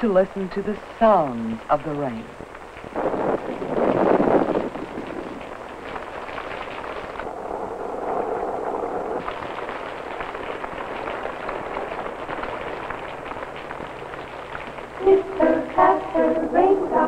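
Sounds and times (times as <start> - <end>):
rain pattering on pavement: 0.0 - 16.7
film soundtrack crackle: 0.0 - 17.0.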